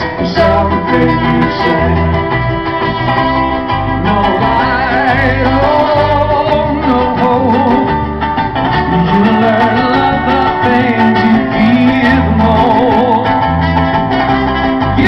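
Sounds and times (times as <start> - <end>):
cajon drumming: 0.0 - 15.0
electric bass: 0.0 - 15.0
strummed acoustic guitar: 0.0 - 15.0.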